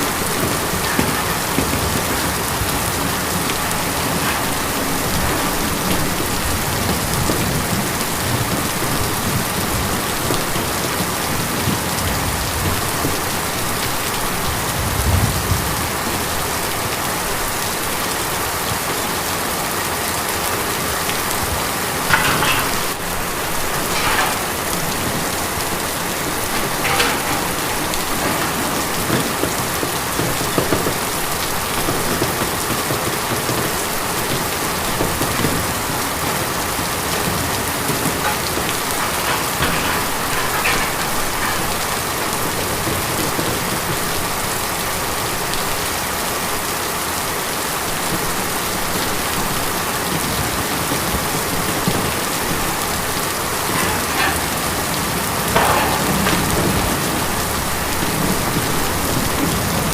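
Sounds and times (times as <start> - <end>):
rain on a tin roof: 0.0 - 59.9.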